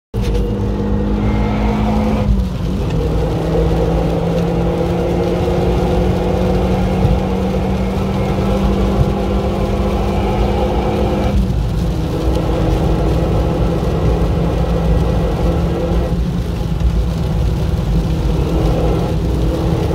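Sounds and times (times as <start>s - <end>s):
tyres hissing on wet track: 0.2s - 19.9s.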